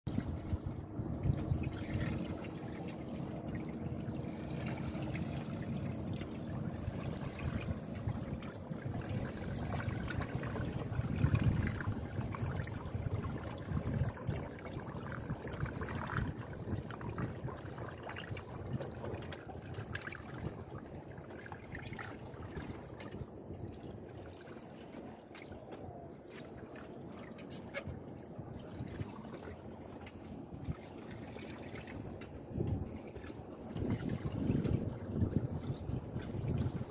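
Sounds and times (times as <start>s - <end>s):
water splashing and trickling: 0.1s - 36.9s.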